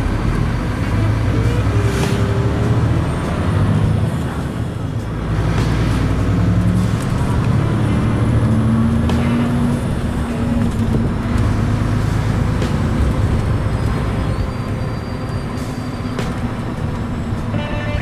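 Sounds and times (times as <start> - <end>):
diesel engine running: 0.0 - 18.0
road and tyre noise: 0.0 - 18.0.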